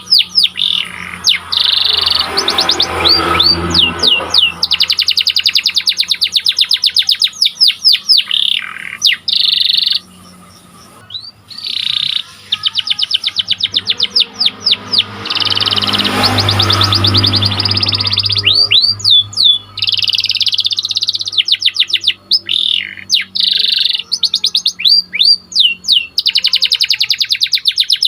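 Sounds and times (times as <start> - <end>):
canary singing trills: 0.0 - 28.0.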